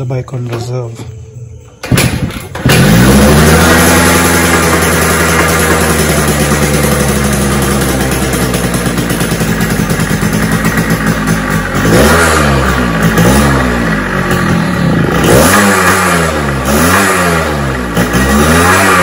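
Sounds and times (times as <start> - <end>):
two-stroke engine revving: 2.5 - 19.0.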